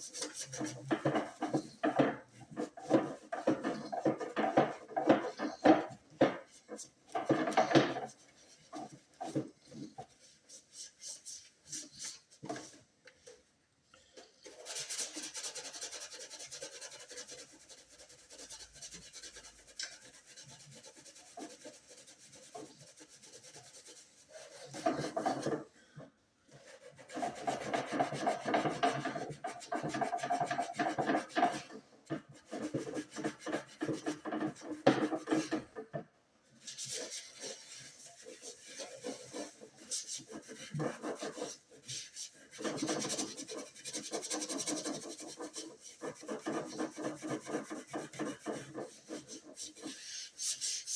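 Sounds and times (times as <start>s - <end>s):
rubbing on a hard surface: 0.0s - 13.5s, 14.2s - 50.9s.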